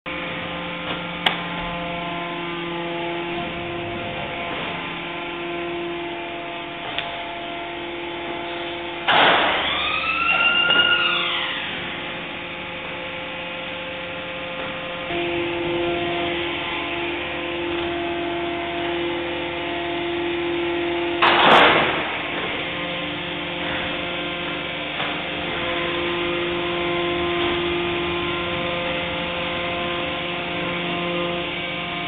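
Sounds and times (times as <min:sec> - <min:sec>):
machinery humming: 0:00.1 - 0:32.0.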